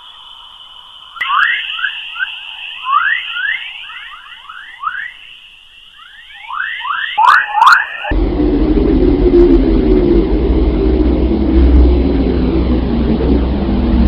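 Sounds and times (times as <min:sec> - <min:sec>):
rising electronic chirps: 0:00.0 - 0:14.0
steady high whine: 0:00.0 - 0:14.0.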